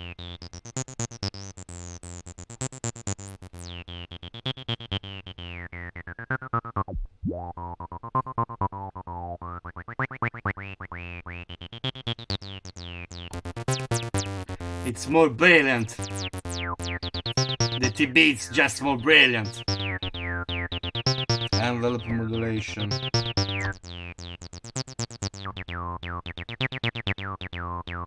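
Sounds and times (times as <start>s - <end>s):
acid synthesizer bassline: 2.9s - 28.0s.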